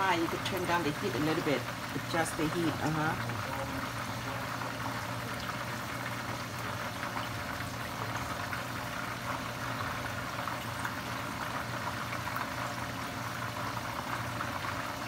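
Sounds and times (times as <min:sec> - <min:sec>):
chicken deep-frying in oil: 0:00.0 - 0:15.0
low steady hum: 0:00.0 - 0:15.0.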